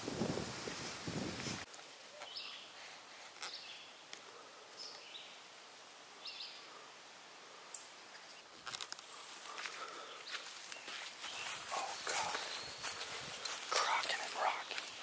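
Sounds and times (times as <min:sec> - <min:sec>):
woodland background: 0:00.0 - 0:15.0
songbird chirps: 0:01.7 - 0:06.9, 0:07.6 - 0:15.0.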